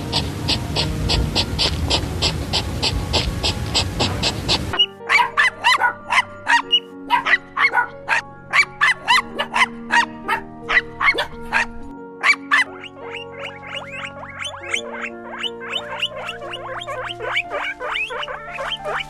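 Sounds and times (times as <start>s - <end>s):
background music: 0.0s - 19.0s
small dog yapping: 0.2s - 19.0s.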